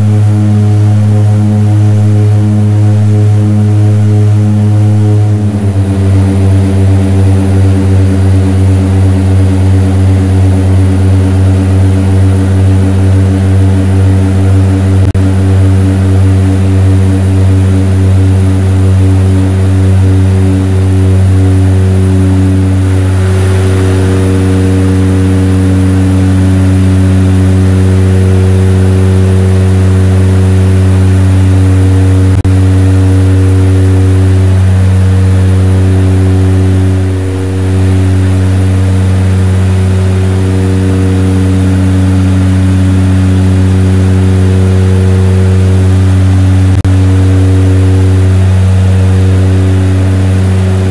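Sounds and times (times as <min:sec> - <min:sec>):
propeller aircraft engines droning: 0:00.0 - 0:50.9.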